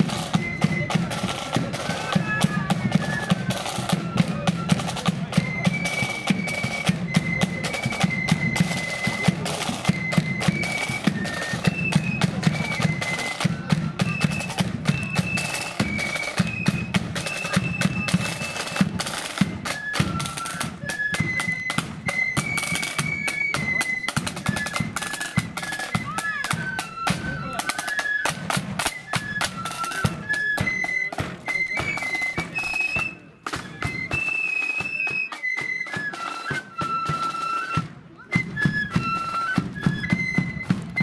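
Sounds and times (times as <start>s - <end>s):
flutes playing melody: 0.0s - 41.0s.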